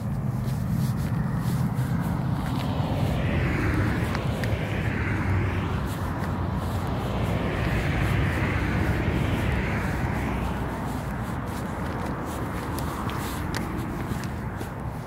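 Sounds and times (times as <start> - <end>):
car passing: 0.0 - 15.0
steady low rumble: 0.0 - 15.0.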